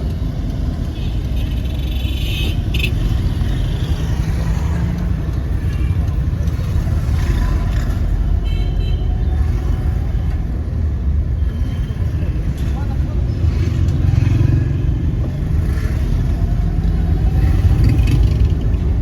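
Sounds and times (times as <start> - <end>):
passing vehicle engines: 0.0 - 19.0
traffic rumble: 0.0 - 19.0.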